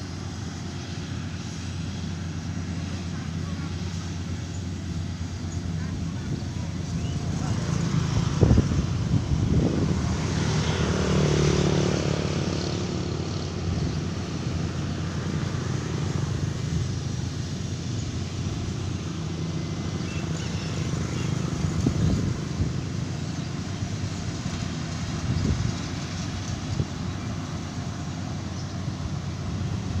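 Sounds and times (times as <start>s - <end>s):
combine harvester engine running: 0.0s - 30.0s.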